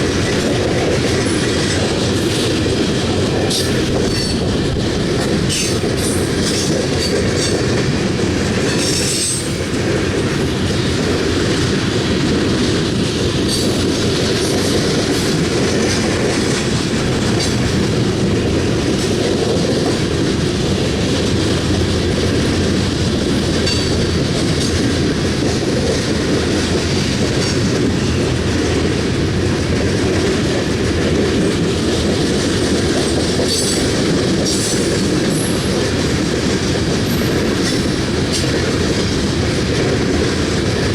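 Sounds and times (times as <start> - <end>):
train cars rumbling: 0.0 - 40.9.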